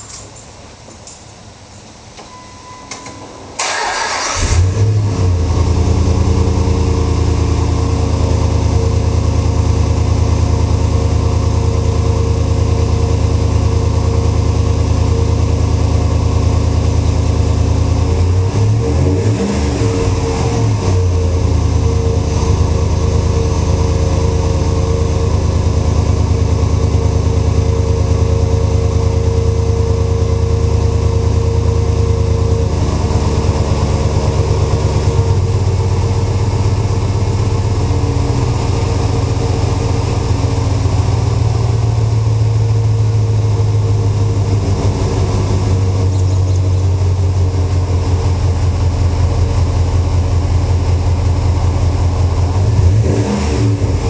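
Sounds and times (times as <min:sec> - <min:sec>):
car engine idling: 0:03.6 - 0:54.0.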